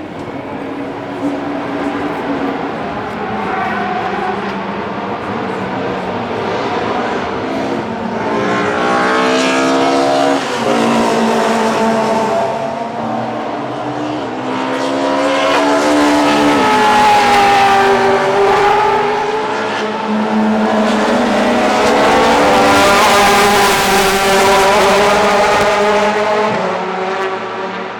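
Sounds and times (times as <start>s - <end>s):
cars passing: 0.0s - 27.9s
racing car engines at full throttle: 0.0s - 27.9s.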